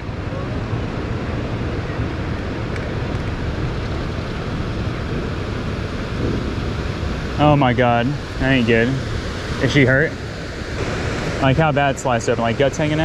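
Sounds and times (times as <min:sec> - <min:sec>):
low even hum: 0:00.0 - 0:13.0
water noise: 0:00.0 - 0:13.0
wind: 0:00.0 - 0:13.0.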